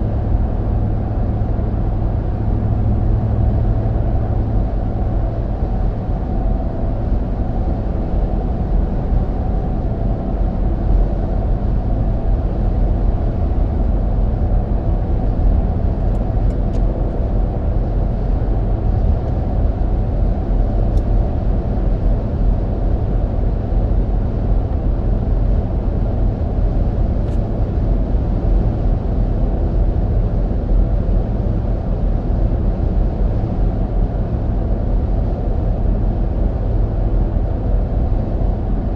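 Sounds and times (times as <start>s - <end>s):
in-cabin road noise: 0.0s - 38.9s.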